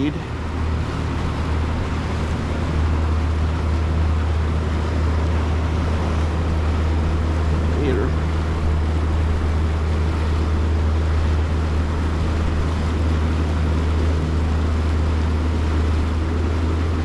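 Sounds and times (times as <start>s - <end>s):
boat motor running: 0.0s - 17.0s
water noise: 0.0s - 17.0s.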